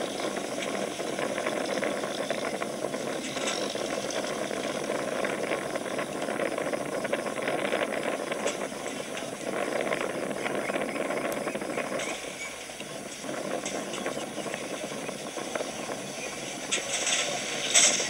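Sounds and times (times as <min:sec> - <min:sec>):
hiss: 0:00.0 - 0:18.0.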